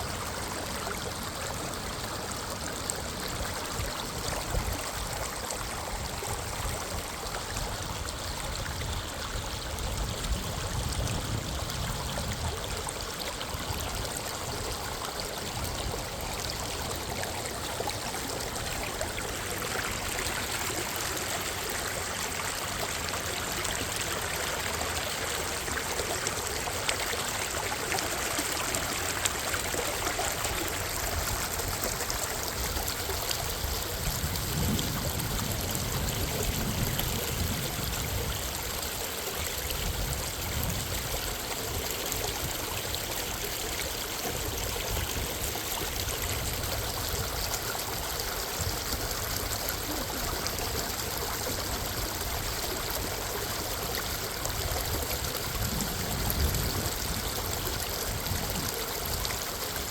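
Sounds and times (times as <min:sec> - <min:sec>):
creek water flowing: 0:00.0 - 0:59.9.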